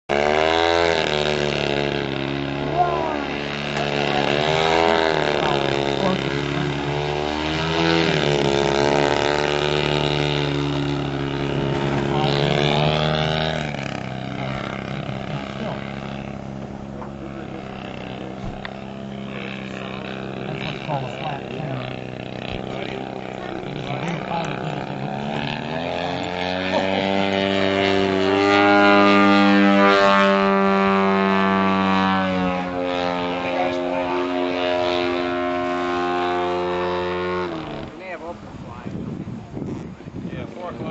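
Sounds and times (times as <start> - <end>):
model airplane engine: 0.1 - 40.9.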